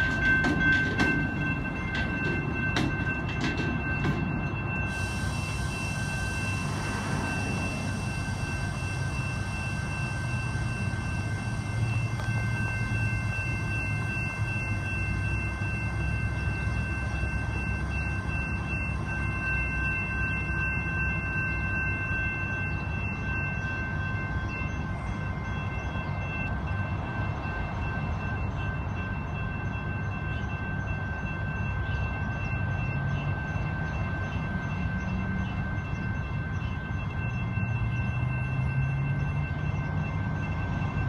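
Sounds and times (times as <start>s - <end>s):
freight train wheels rumbling on rail: 0.0s - 41.0s
steady high ringing tone: 0.0s - 41.0s.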